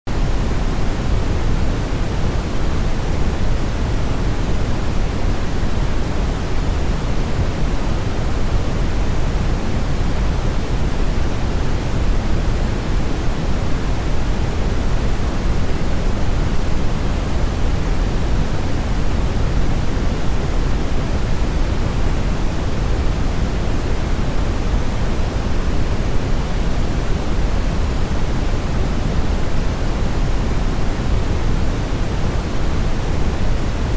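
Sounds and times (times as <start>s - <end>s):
steady rushing noise: 0.1s - 33.9s.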